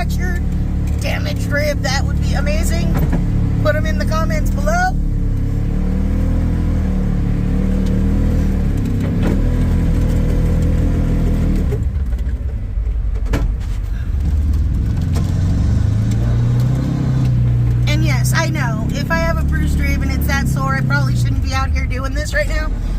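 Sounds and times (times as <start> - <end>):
utility vehicle engine under load: 0.0 - 22.9.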